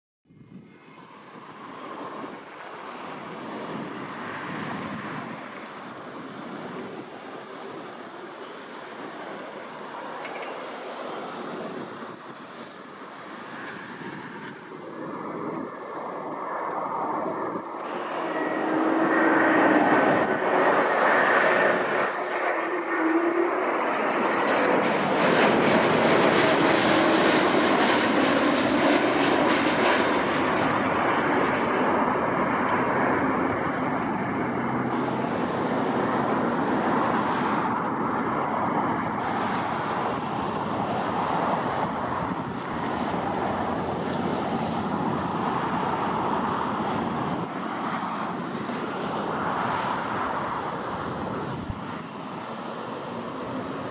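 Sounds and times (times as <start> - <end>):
airliner engines passing: 0.3 - 53.9.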